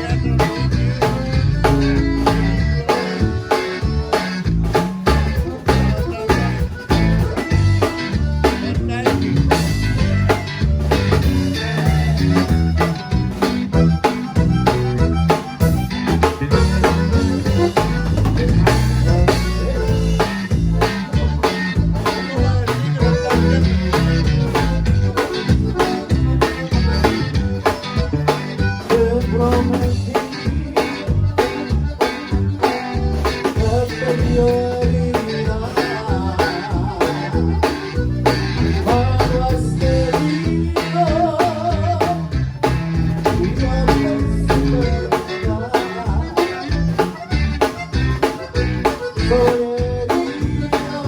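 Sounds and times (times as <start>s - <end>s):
bass line: 0.0s - 51.0s
button accordion: 0.0s - 51.0s
drum kit steady beat: 0.0s - 51.0s
strummed guitar strings: 0.0s - 51.0s.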